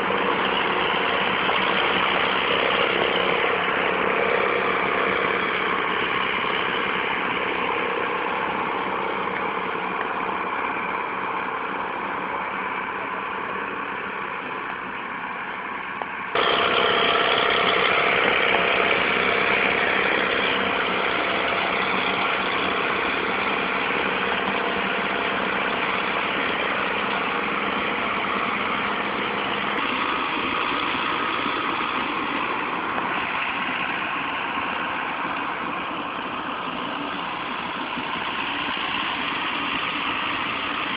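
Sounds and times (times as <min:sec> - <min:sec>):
tractor diesel engines running: 0:00.0 - 0:40.9.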